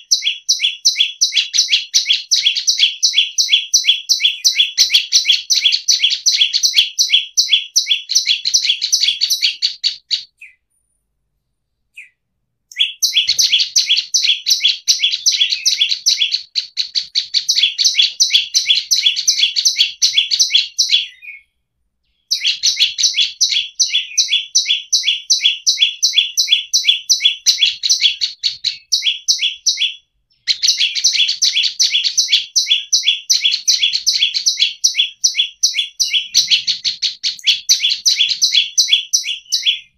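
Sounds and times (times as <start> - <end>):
bird singing high chirps: 0.0 - 10.9, 11.9 - 39.9.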